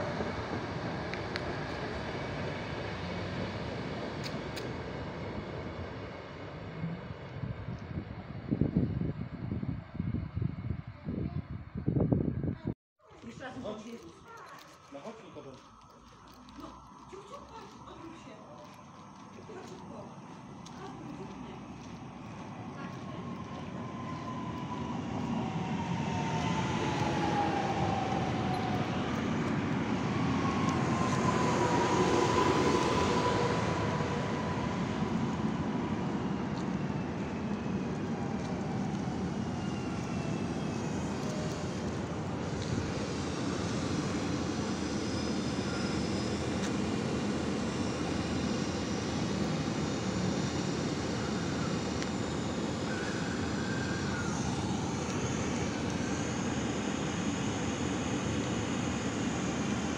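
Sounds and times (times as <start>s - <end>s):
train rumbling past: 0.0s - 12.5s, 13.2s - 59.9s.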